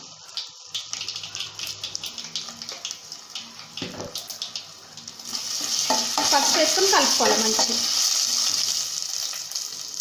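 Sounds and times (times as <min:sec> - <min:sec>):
oil sizzling and popping in pan: 0:00.0 - 0:10.0.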